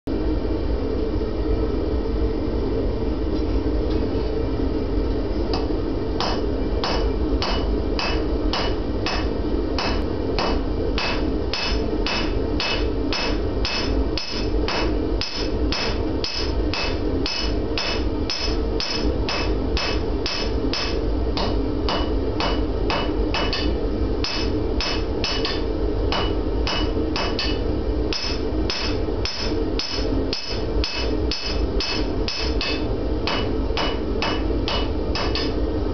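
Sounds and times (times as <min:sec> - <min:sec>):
hammer ringing on anvil: 0:06.2 - 0:35.6.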